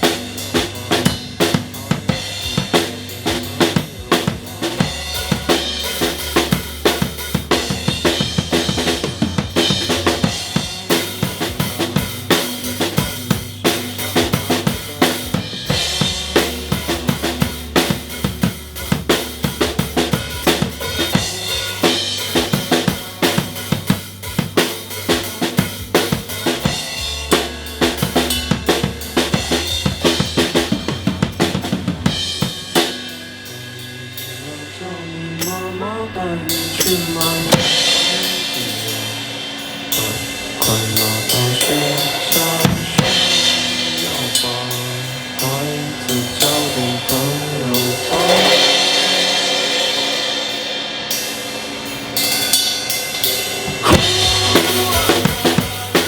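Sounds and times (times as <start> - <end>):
drum kit played fast: 0.0 - 56.0
rock backing track: 0.0 - 56.0.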